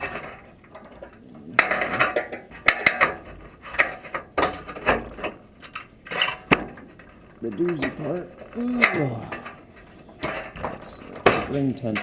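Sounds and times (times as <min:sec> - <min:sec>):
metal tools clicking and scraping: 0:00.0 - 0:12.0.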